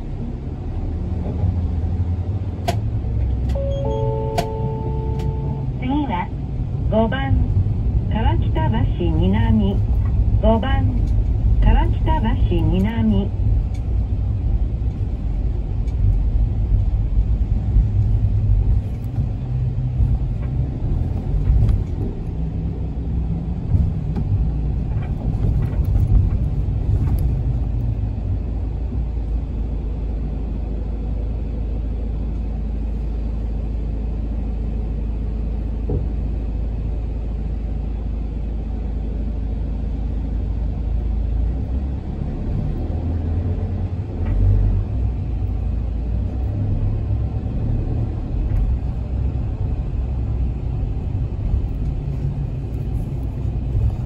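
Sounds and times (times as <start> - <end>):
diesel engine from inside cabin: 0.0 - 54.0
road noise: 0.0 - 54.0.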